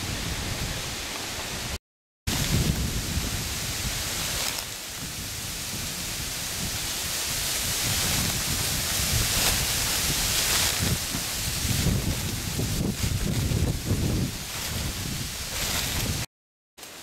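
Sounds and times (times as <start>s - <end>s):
wind rumbling on microphone: 0.0s - 16.3s
footsteps through dry leaves: 2.3s - 17.0s
steady rustle: 2.3s - 17.0s.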